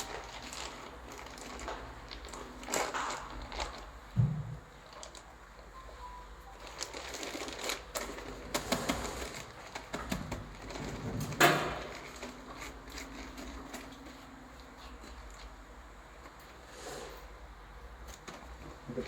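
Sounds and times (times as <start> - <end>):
plastic packaging rustling: 0.0 - 16.6.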